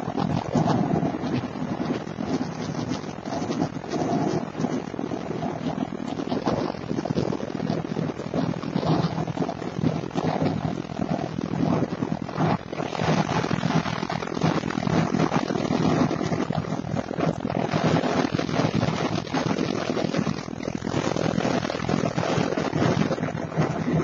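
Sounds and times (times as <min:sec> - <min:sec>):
tyre and wind noise: 0:00.0 - 0:24.0.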